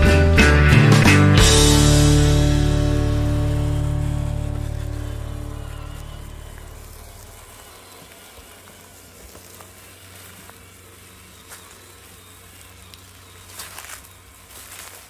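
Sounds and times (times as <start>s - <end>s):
toy car tyres crackling over twigs: 1.5s - 15.0s.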